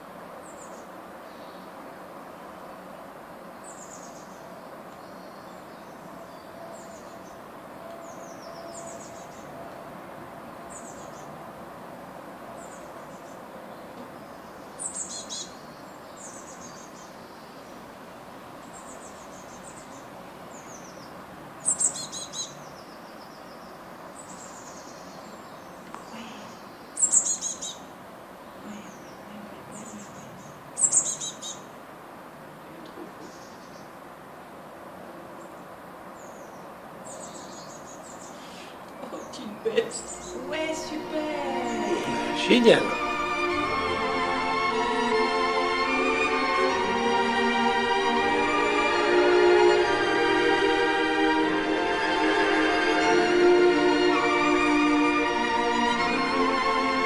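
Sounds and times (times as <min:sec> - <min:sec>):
birds chirping high and thin: 0:00.4 - 0:01.9, 0:03.4 - 0:09.8, 0:10.4 - 0:11.4, 0:12.5 - 0:31.8, 0:32.8 - 0:34.0, 0:35.3 - 0:57.0.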